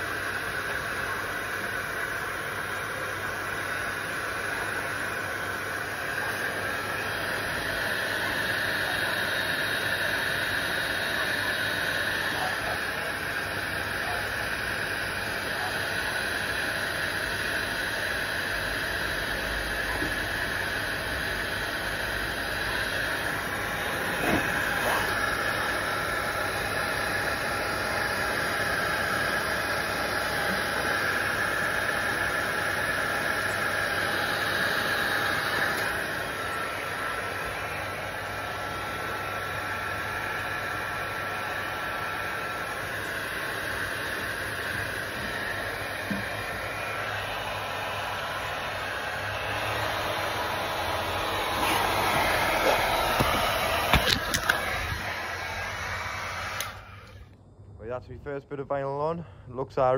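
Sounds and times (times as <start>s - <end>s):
heat gun fan blowing: 0.0s - 59.9s.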